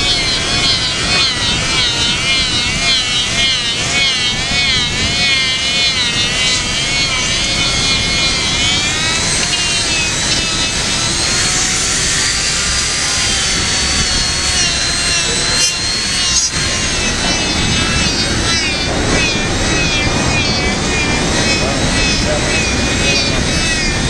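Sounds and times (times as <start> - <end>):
die grinder whining against rubber: 0.0 - 24.0.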